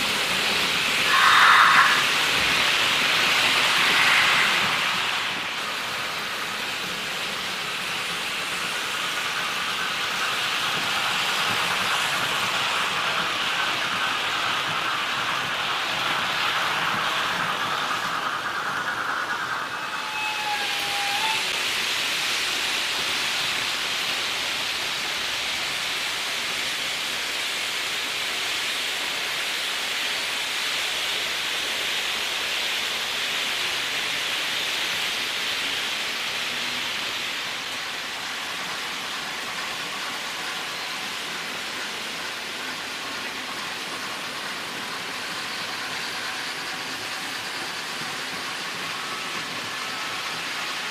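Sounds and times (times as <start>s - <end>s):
model trains rolling on track: 0.0s - 50.9s.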